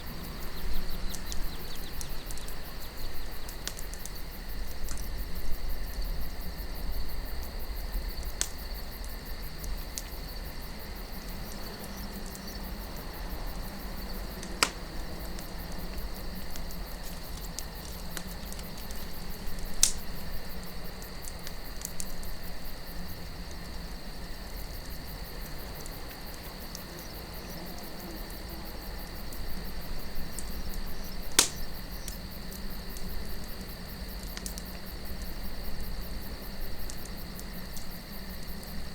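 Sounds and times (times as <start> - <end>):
burning wood pops: 0.0 - 38.9
campfire crackling: 0.0 - 38.9
crickets chirring: 0.0 - 38.9.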